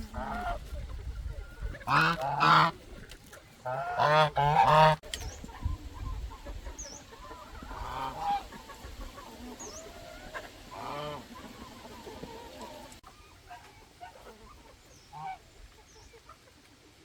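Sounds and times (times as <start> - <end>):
geese honking: 0.0 - 16.6.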